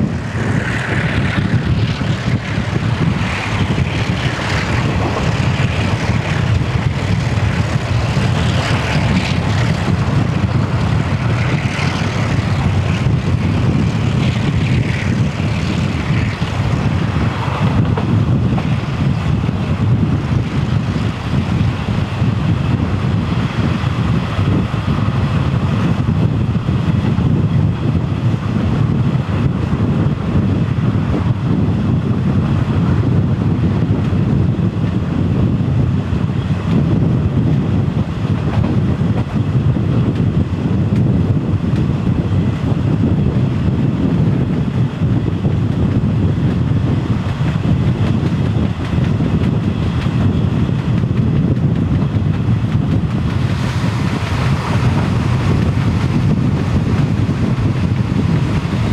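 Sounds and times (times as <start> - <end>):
passenger train running noise: 0.0 - 58.9
wind buffeting microphone: 0.0 - 58.9.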